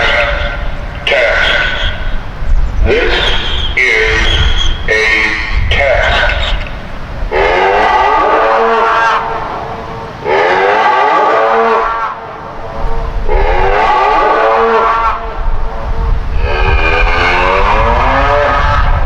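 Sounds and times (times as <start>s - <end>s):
warning sirens mooing tone: 0.0s - 19.0s.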